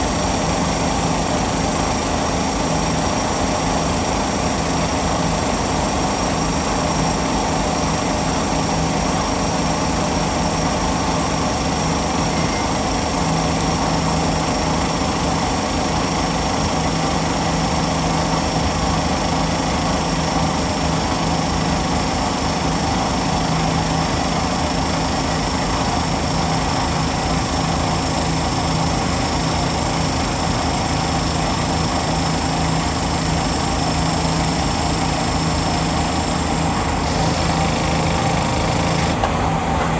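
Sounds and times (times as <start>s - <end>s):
machine humming while machining metal: 0.0s - 39.9s.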